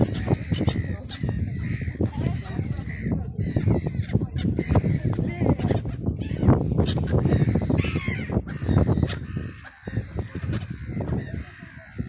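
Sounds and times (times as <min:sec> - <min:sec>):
gulls calling: 0:00.0 - 0:12.0
wind rumble on microphone: 0:00.0 - 0:12.0.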